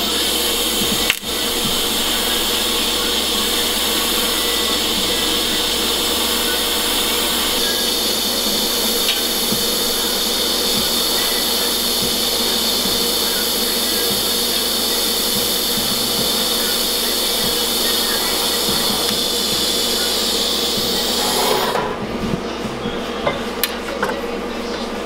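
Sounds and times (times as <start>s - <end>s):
welding arc buzzing hiss: 0.0s - 23.8s.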